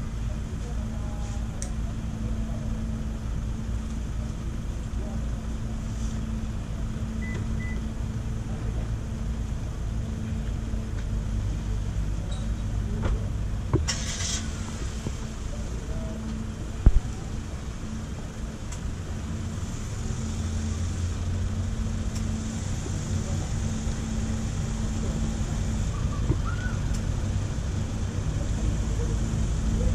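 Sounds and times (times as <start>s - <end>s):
low engine drone: 0.0s - 29.9s.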